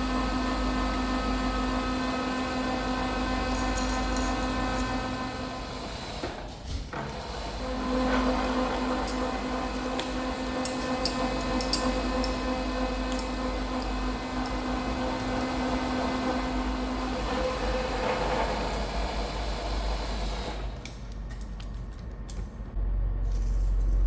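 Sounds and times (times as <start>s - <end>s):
milling machine hum: 0.0s - 22.0s.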